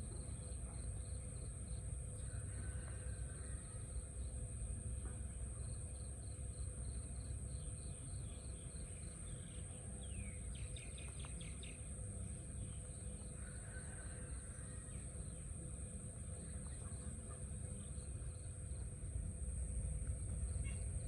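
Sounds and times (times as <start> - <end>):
insect chirping: 0.0 - 21.0
insects high-pitched drone: 0.0 - 21.0.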